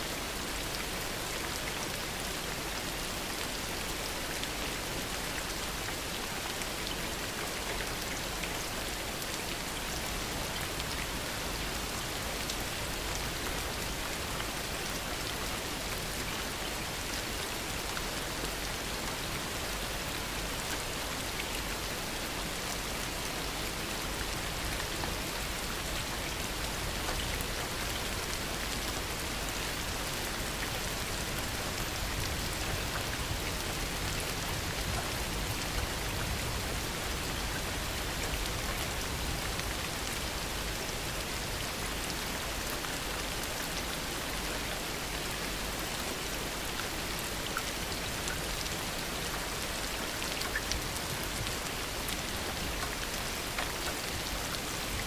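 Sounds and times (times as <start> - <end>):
heavy rain falling: 0.2 - 55.0.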